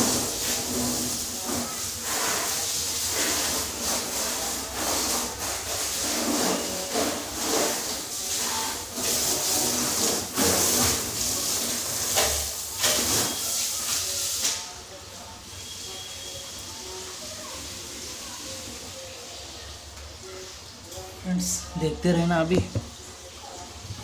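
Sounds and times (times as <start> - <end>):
hose water spraying on car: 0.0 - 21.6.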